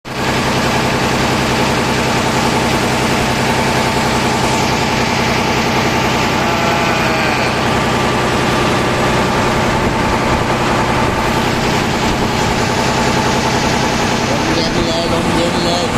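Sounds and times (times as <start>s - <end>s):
boat engine humming: 0.1s - 15.9s.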